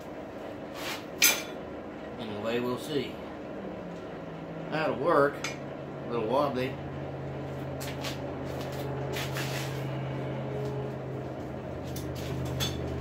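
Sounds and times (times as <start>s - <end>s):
forge humming and hissing: 0.0s - 13.0s.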